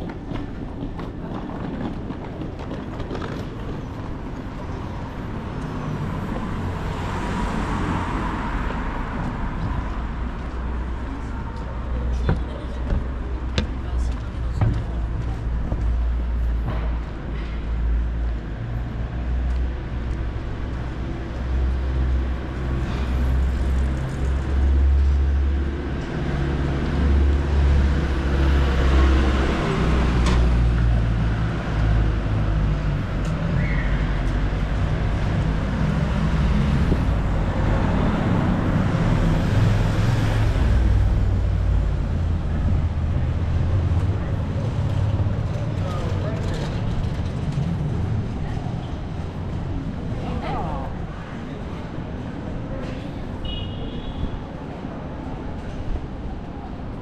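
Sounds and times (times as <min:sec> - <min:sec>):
passing vehicle engines rumbling: 0:00.0 - 0:57.0.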